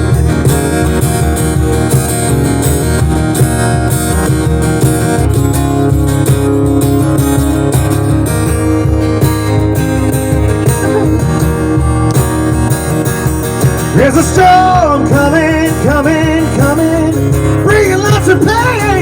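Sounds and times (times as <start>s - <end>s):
bass and beat: 0.0s - 19.0s
strummed acoustic guitar: 0.0s - 19.0s.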